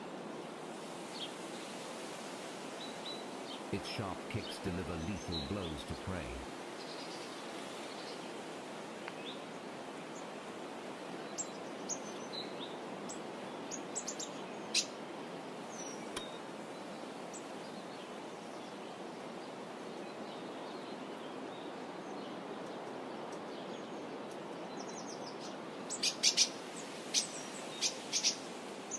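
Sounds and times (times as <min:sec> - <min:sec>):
outdoor background hiss: 0:00.0 - 0:28.9.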